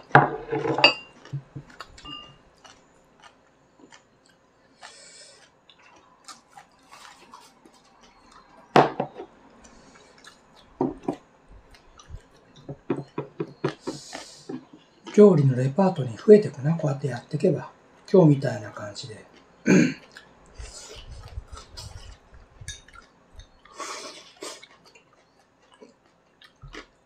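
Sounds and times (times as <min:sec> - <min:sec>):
chewing: 0:01.2 - 0:16.3, 0:19.3 - 0:27.0.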